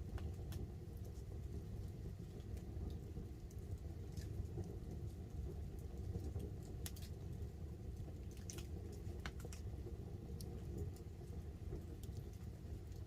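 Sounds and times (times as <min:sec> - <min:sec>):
campfire low rumble: 0:00.0 - 0:13.0
fire crackling: 0:00.0 - 0:13.0
rain dripping: 0:00.0 - 0:13.0.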